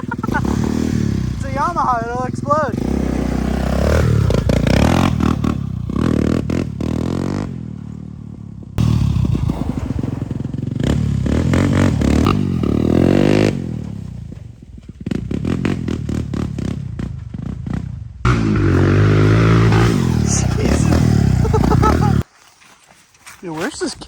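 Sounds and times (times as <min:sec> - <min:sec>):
quad engine revving: 0:00.0 - 0:07.9, 0:08.8 - 0:14.4, 0:15.1 - 0:22.2.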